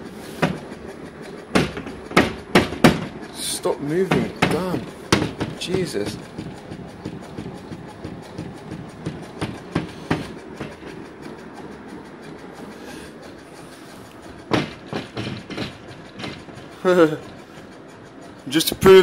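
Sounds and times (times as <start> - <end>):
doors and panels rattling: 0.0 - 19.0.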